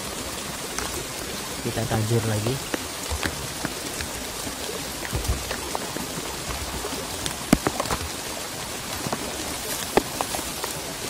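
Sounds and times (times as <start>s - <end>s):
steady rain falling: 0.0s - 11.0s
raindrop taps: 0.6s - 11.0s.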